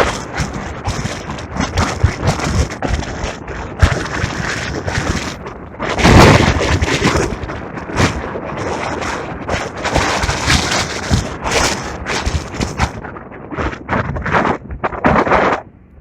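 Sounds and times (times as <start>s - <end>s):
wind gusting against microphone: 0.0s - 16.0s.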